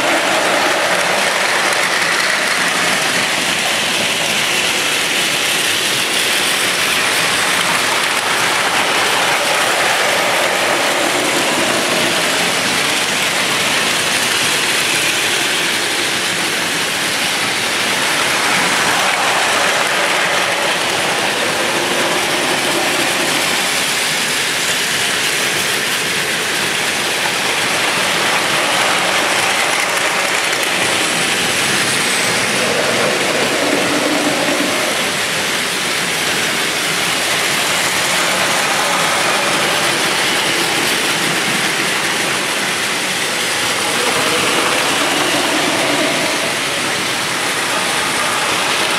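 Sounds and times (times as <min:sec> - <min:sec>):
toy train motors whirring: 0:00.0 - 0:48.9
toy train wheels clattering: 0:00.0 - 0:48.9.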